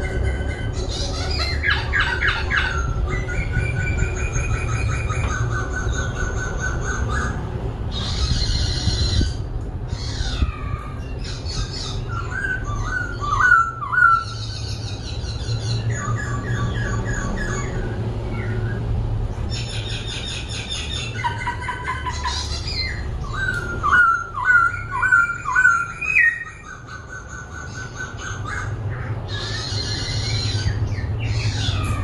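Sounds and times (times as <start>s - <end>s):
bird singing trills and whistles: 0.0s - 18.9s, 19.5s - 32.0s.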